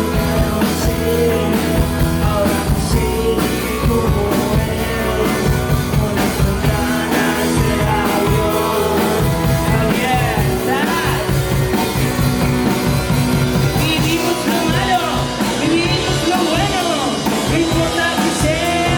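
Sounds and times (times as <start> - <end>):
bass guitar: 0.0 - 18.9
drums: 0.0 - 18.9
electric guitars: 0.0 - 18.9
sung or lead melody: 0.0 - 18.9.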